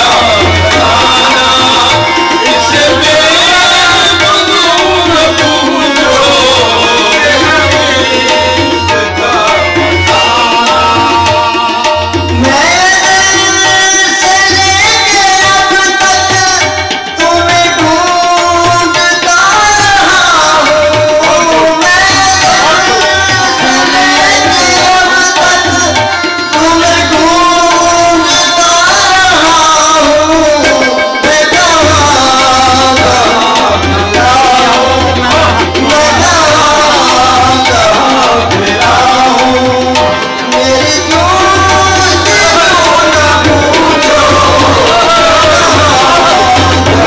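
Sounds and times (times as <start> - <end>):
harmonium: 0.0 - 47.0
man singing devotional song: 0.0 - 47.0
tabla drum strokes: 0.0 - 47.0.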